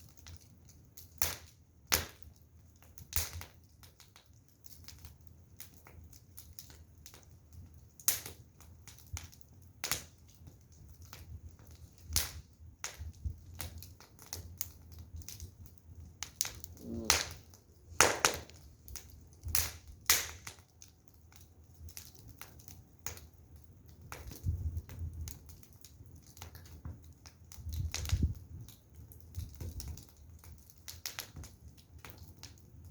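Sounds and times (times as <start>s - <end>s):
firewood crackling and popping: 0.0s - 32.9s.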